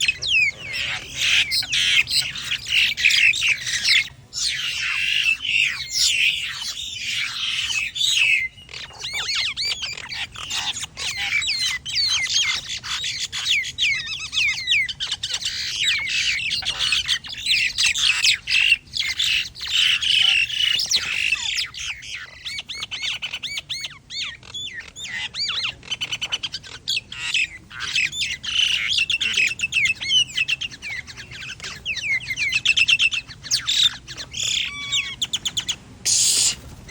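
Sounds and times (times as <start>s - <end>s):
birds squawking in a fight: 0.0s - 36.9s.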